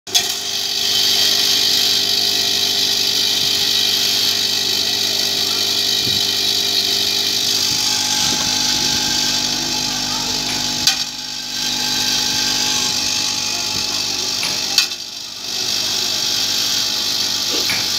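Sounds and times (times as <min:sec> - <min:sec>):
electromagnetic drive hum: 0:00.2 - 0:17.9.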